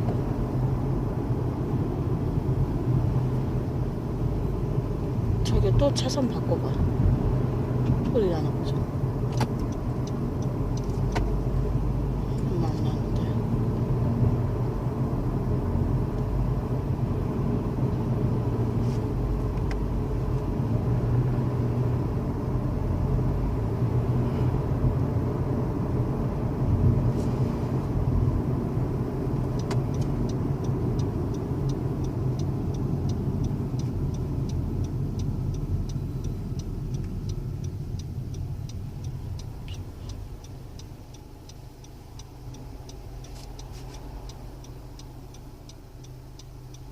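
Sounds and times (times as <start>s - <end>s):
car road and engine noise: 0.0s - 46.9s
turn signal ticking: 0.0s - 46.9s.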